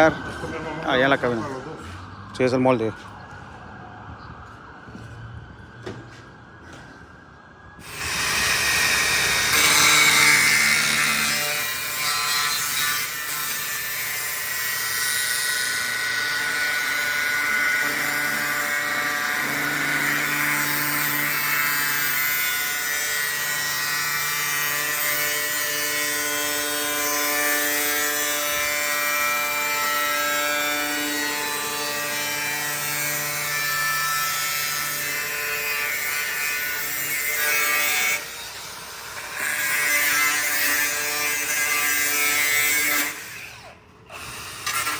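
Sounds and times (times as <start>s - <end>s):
power tool cutting sheet metal: 7.8s - 44.9s.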